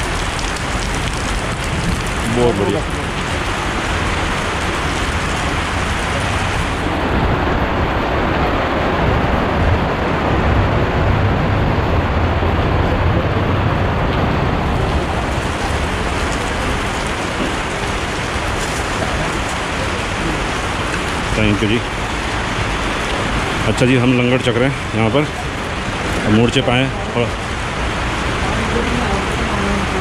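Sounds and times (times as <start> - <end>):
deep rumble: 0.0 - 30.0
heavy rain on a roof: 0.0 - 30.0.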